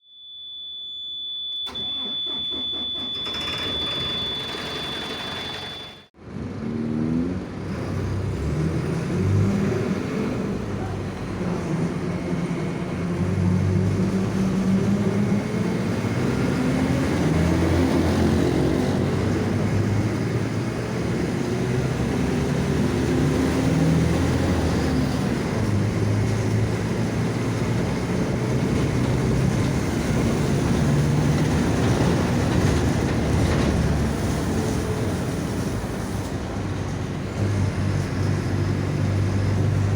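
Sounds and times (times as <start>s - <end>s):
bus diesel engine under load: 1.6s - 39.9s.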